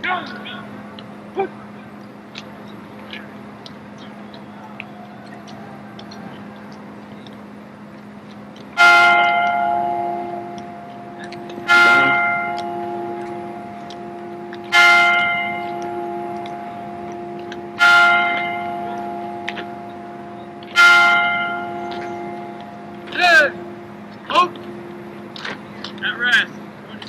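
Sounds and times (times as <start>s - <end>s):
large bell ringing: 4.3s - 27.0s.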